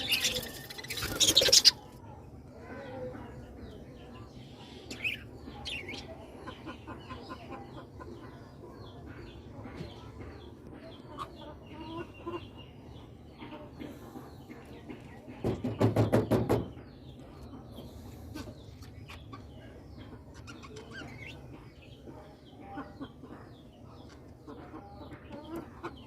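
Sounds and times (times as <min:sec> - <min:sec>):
flock of birds chirping: 0:00.0 - 0:26.0.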